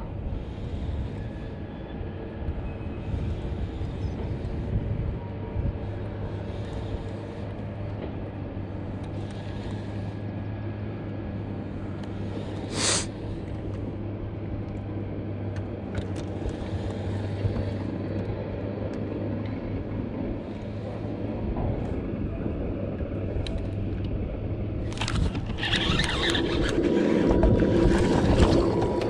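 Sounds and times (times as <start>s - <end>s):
boat motor humming: 0.0s - 29.0s
rushing background noise: 0.0s - 29.0s.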